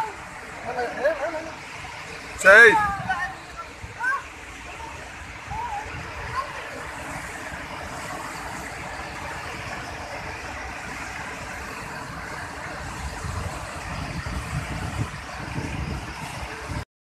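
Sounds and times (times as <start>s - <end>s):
floodwater stream rushing: 0.0s - 16.8s
waterfall roaring: 0.0s - 16.8s.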